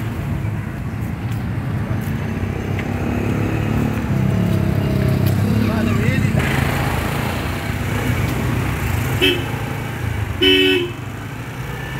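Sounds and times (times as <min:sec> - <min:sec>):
vehicle engines humming: 0:00.0 - 0:11.9.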